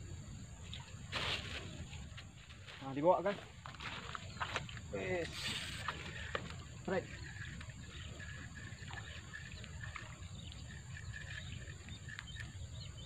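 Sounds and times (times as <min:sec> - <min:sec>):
birds chirping: 0:00.0 - 0:13.0
high insect drone: 0:00.0 - 0:13.0.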